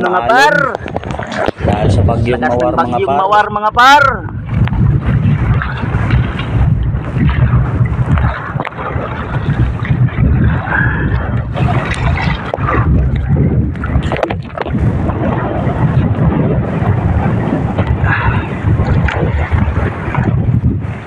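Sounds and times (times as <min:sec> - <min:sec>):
rough sea splashing: 0:00.0 - 0:21.0
wind buffeting microphone: 0:00.0 - 0:21.0.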